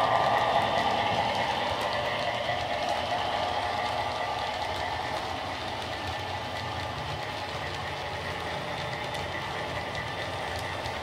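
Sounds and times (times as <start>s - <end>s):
model train clicking on track: 0.0s - 11.0s.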